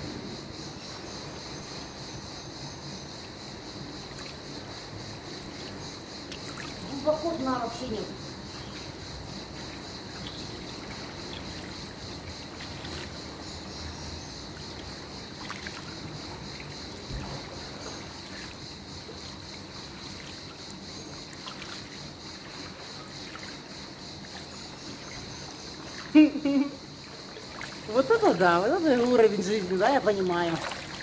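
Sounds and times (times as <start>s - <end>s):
pool water lapping and splashing: 0.0s - 31.0s.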